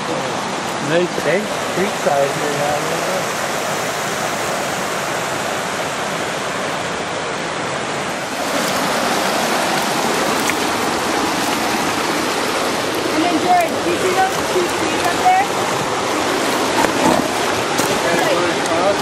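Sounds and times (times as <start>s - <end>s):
creek rushing over rocks: 0.0s - 19.0s.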